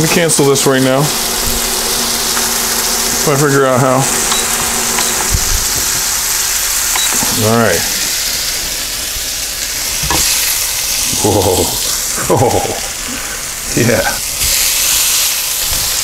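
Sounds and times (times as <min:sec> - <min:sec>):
steaks sizzling on a grill plate: 0:00.0 - 0:16.0.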